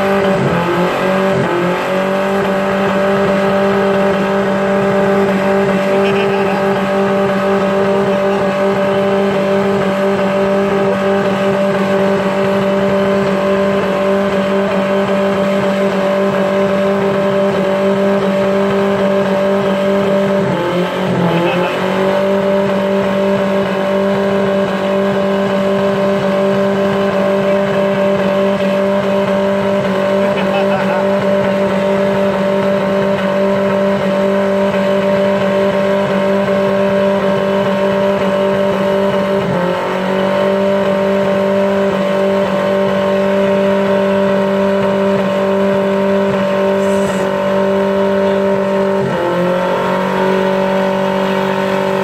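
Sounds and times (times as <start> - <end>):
engine revving high: 0.0 - 52.0
spinning tyres hissing: 0.0 - 52.0.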